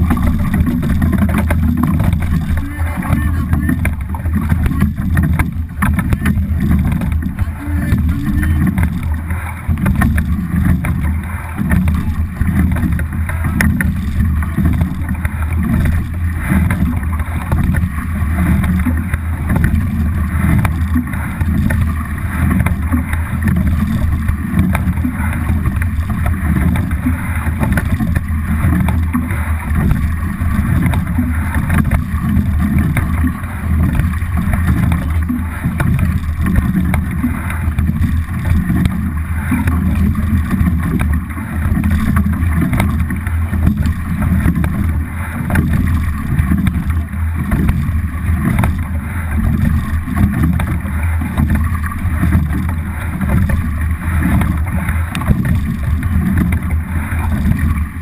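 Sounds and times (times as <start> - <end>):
water rushing past hull: 0.0 - 58.0.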